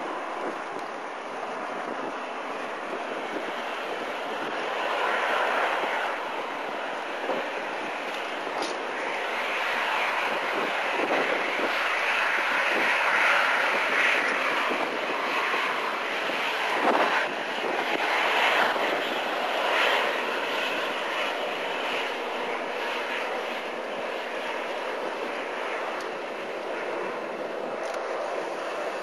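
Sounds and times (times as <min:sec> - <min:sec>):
jet airliner taxiing: 0:00.0 - 0:29.0.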